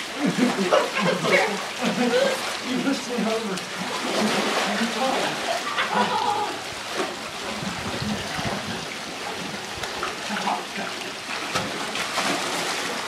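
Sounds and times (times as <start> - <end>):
pool water splashing and sloshing: 0.0 - 13.0.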